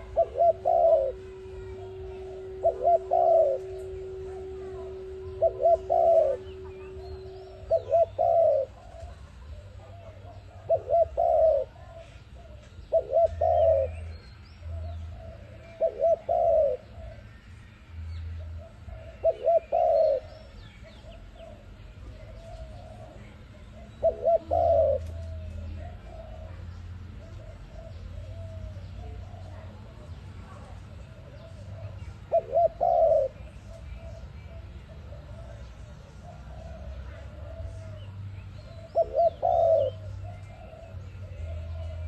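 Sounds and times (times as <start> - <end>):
dove cooing: 0.0 - 17.6, 18.2 - 42.0
small birds chirping: 0.0 - 42.0.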